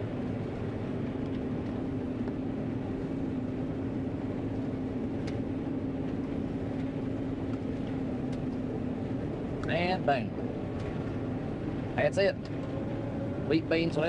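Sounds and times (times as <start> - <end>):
combine harvester drone: 0.0 - 14.0.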